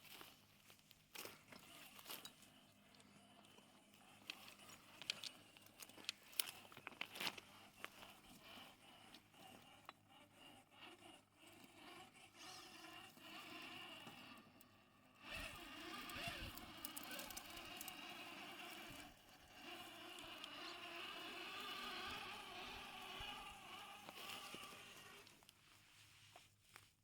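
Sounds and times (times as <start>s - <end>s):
toy truck electric motor: 1.1s - 25.4s.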